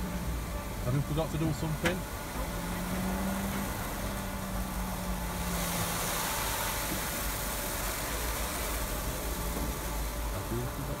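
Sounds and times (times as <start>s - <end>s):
car engines idling: 0.0s - 11.0s
car wash hiss: 0.0s - 11.0s.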